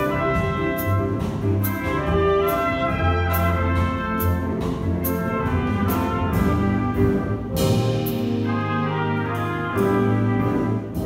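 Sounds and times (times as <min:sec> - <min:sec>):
wind band playing brass chords: 0:00.0 - 0:11.0.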